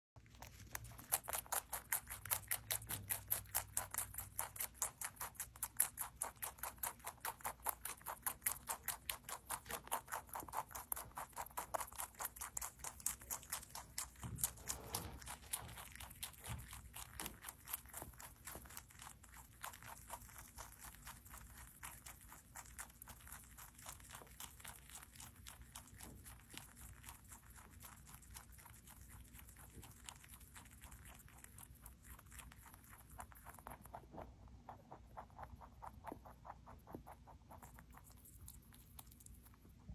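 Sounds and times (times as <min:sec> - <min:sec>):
rabbit chewing crunchy food: 0:00.2 - 0:39.9.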